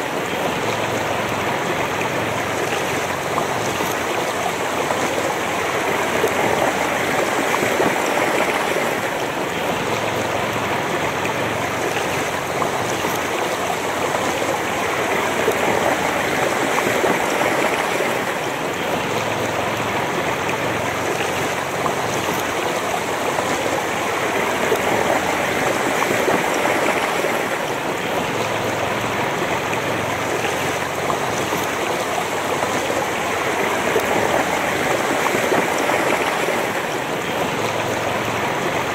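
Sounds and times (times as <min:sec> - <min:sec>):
river flowing over rocks: 0:00.0 - 0:38.9.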